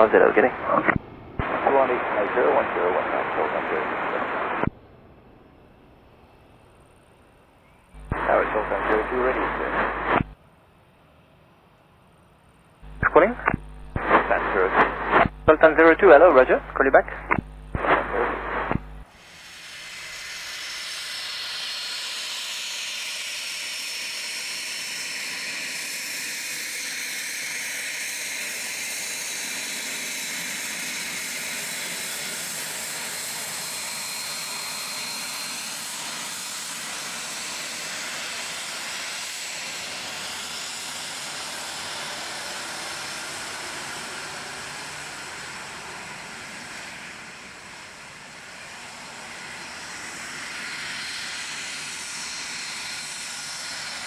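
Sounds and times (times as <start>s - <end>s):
jet engines whining at taxi: 0.0s - 54.0s.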